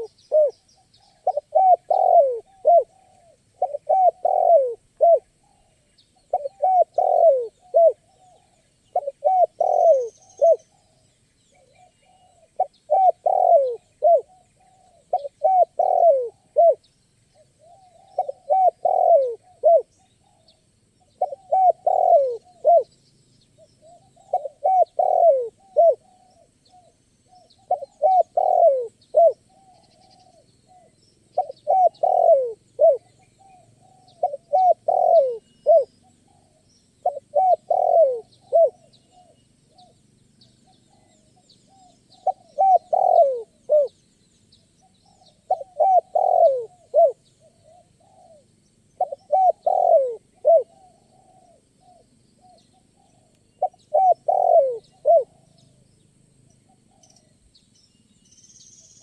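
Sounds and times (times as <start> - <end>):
dove cooing: 0.0 - 11.0, 11.6 - 22.9, 23.8 - 40.0, 40.6 - 43.9, 45.1 - 55.6.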